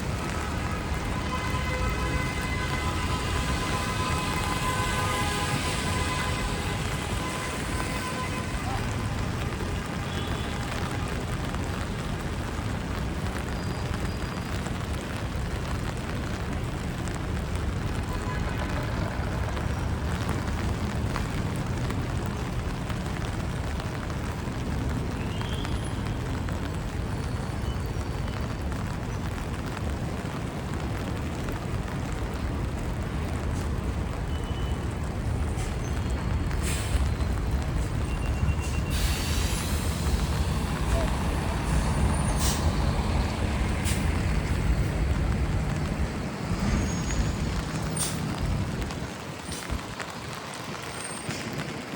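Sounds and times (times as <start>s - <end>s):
low rumble of traffic: 0.0s - 51.9s
rain hiss: 0.0s - 51.9s.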